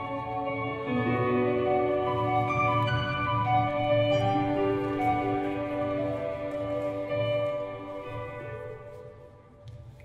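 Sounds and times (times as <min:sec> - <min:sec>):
music over sound system: 0:00.0 - 0:10.0.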